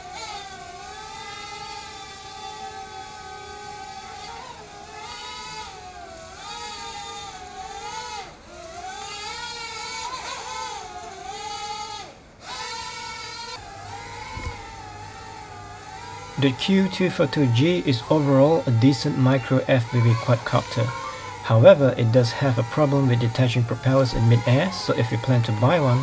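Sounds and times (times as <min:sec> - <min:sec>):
quadcopter propellers whining: 0:00.0 - 0:26.0.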